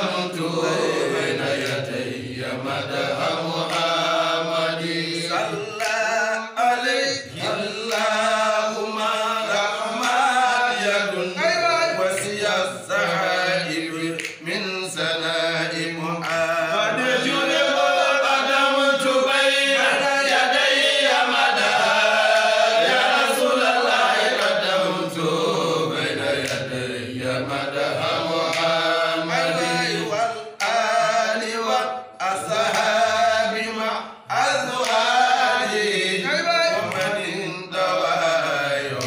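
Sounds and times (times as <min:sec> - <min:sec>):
men chanting devotional song: 0:00.0 - 0:39.0.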